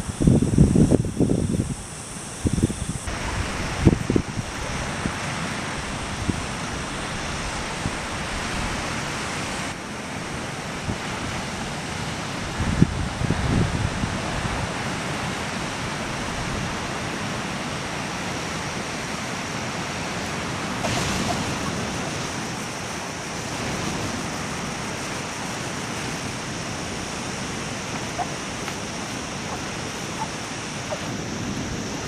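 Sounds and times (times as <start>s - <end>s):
ocean surf washing onto beach: 1.6s - 32.0s.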